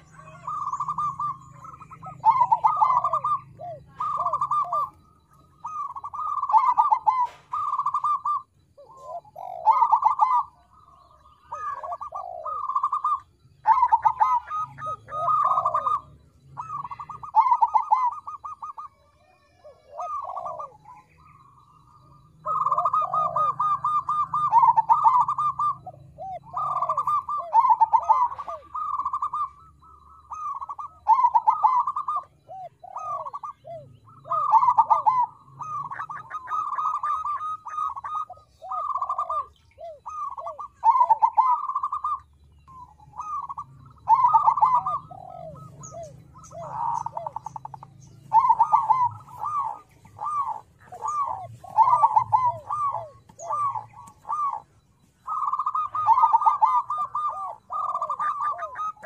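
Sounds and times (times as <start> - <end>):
dove trilled cooing: 0.0 - 59.0.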